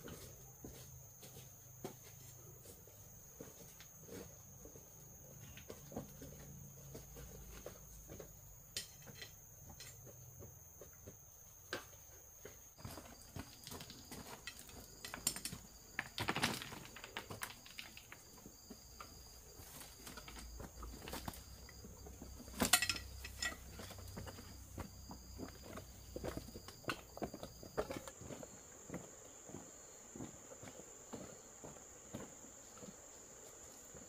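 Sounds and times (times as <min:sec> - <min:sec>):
insect drone: 0:00.0 - 0:34.0.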